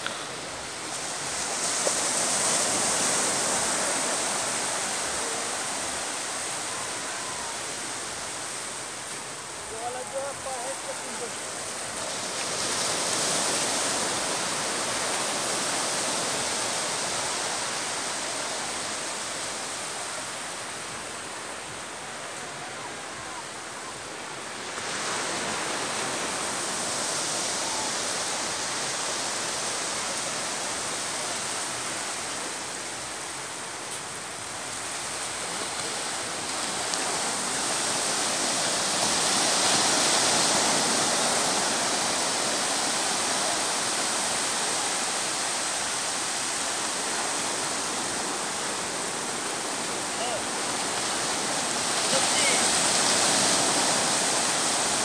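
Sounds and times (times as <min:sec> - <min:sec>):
sea surf breaking on beach: 0:00.0 - 0:55.0.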